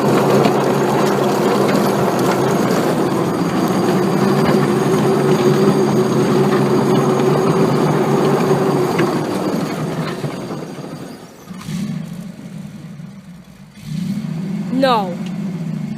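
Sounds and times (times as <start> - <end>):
vehicle engine droning: 0.0 - 15.9.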